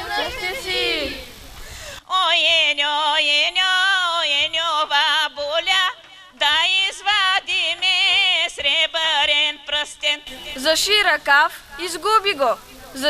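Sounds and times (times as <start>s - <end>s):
woman singing folk song: 0.0s - 13.0s.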